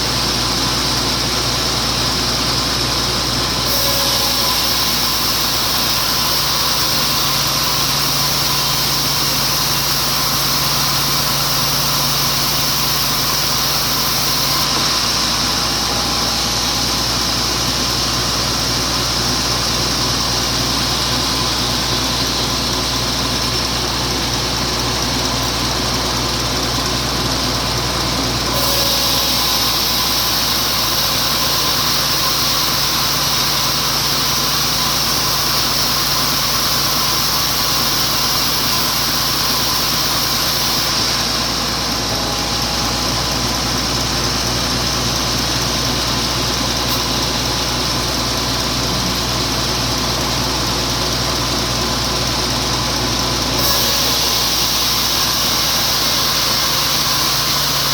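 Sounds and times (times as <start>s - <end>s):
sawmill saw cutting log: 0.0s - 57.9s
loud hiss: 3.6s - 26.8s, 28.0s - 48.9s, 53.1s - 57.9s.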